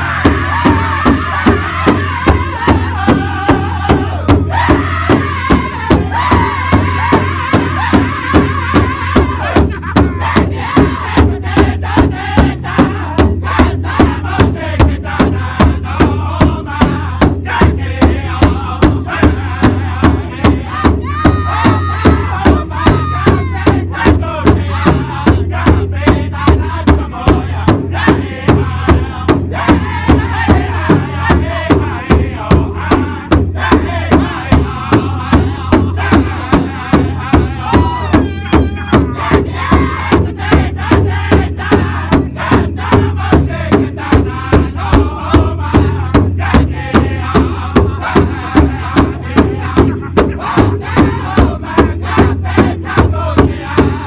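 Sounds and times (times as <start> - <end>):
group singing in high voices: 0.0 - 54.0
large drum steady beat: 0.0 - 54.0.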